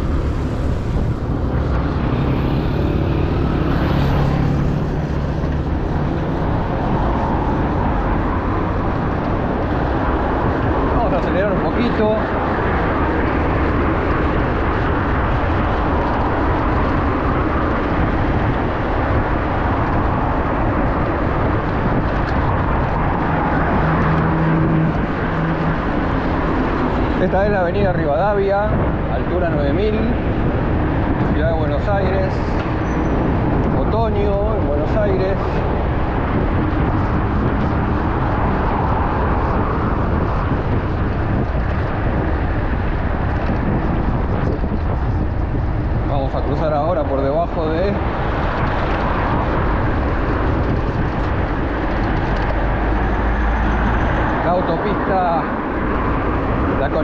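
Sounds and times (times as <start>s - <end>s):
low vehicle engine hum: 0.0s - 57.0s
street traffic: 0.0s - 57.0s
wind rushing: 0.0s - 57.0s.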